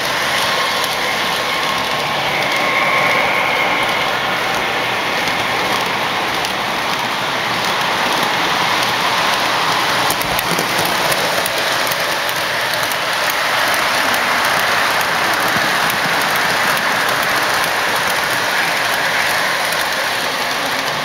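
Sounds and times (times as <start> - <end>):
toy train wheels rattling on rails: 0.0 - 21.0.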